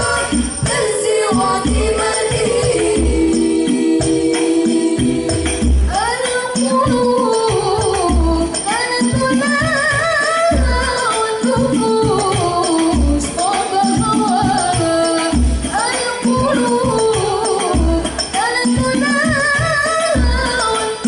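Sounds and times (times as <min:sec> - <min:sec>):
hand-struck frame drums: 0:00.0 - 0:19.6
women singing devotional song: 0:00.0 - 0:21.0.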